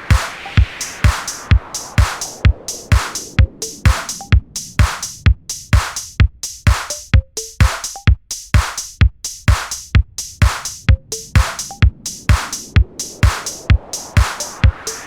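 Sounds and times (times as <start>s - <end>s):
sharp percussion: 0.0s - 15.0s
kick drum: 0.1s - 14.8s.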